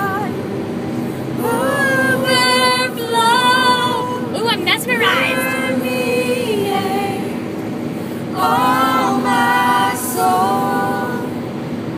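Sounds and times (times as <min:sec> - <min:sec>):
women singing together: 0:00.0 - 0:00.5, 0:01.3 - 0:07.6, 0:08.2 - 0:11.6
car rumble: 0:00.0 - 0:11.9.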